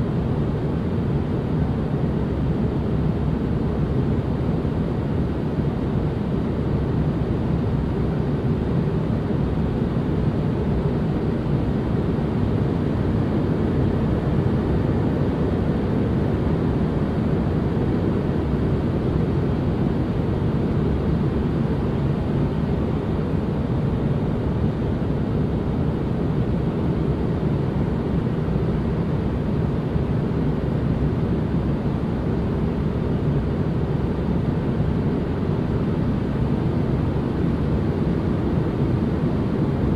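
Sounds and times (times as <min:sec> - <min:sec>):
low rushing white noise: 0:00.0 - 0:39.9.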